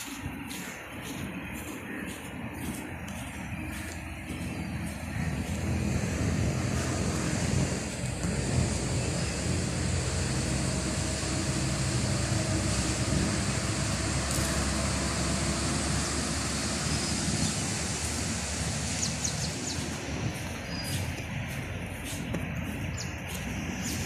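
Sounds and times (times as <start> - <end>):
outdoor rushing noise: 0.0 - 24.0.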